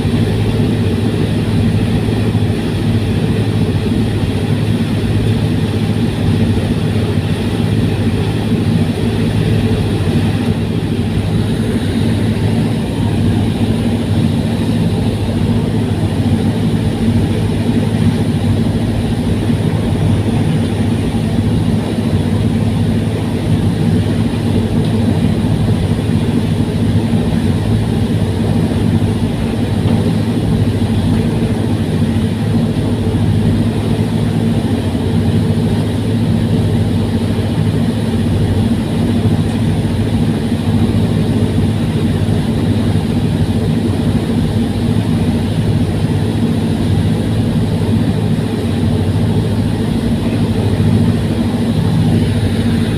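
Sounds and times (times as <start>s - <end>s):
ferry engines humming: 0.0s - 52.9s.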